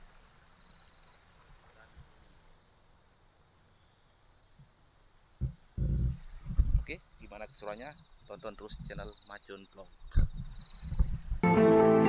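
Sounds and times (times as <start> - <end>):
high-pitched insect trill: 0.0 - 11.4.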